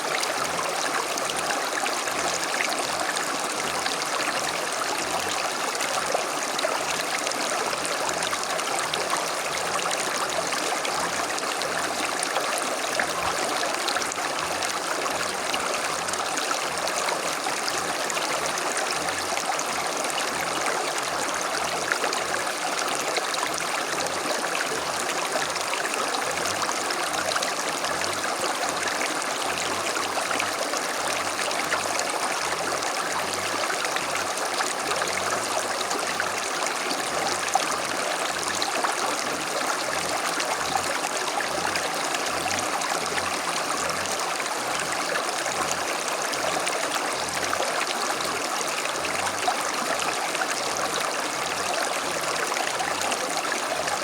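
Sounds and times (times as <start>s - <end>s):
creek babbling over stones: 0.0s - 54.0s.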